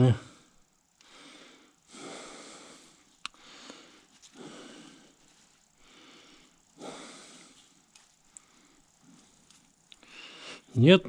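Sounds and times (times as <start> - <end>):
person breathing: 0.1 - 10.8.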